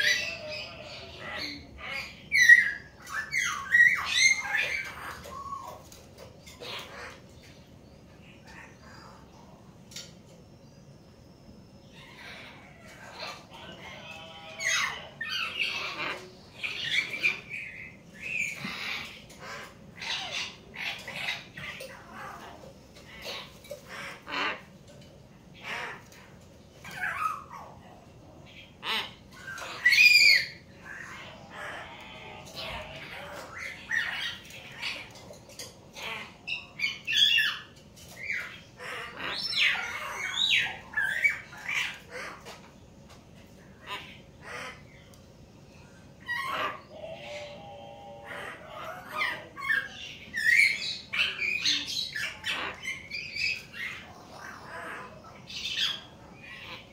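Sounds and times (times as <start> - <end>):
birds squawking and whistling: 0.0 - 56.9.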